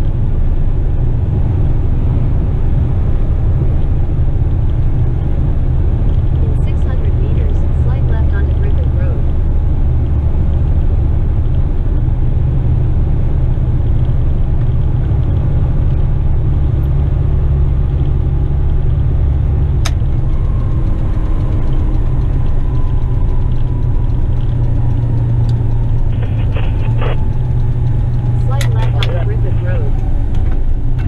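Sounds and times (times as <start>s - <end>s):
truck diesel engine rumble: 0.0s - 31.0s.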